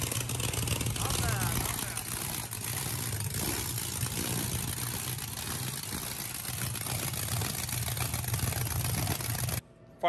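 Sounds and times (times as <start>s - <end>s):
vee eight engine running: 0.0s - 9.6s.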